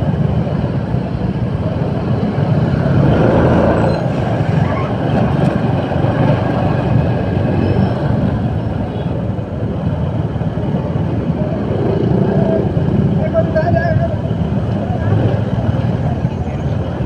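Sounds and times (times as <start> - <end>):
motorcycle engine and road rumble: 0.0 - 17.0.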